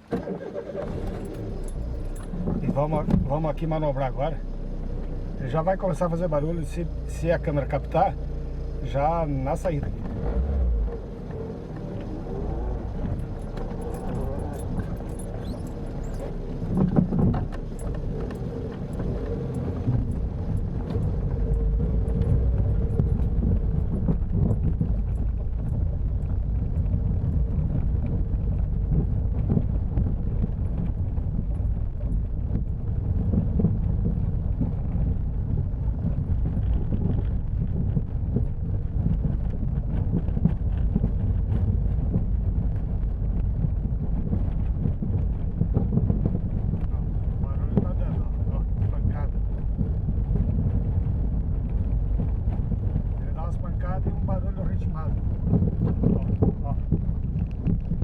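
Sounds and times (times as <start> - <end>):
engine and road rumble: 0.0 - 58.0
suspension knocks and clunks: 0.0 - 58.0.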